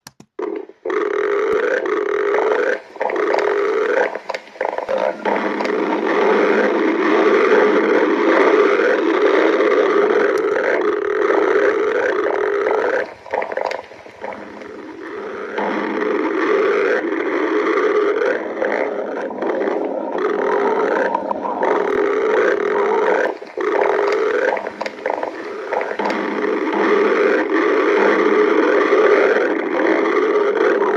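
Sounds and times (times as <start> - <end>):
stomach growling: 0.4 - 30.9.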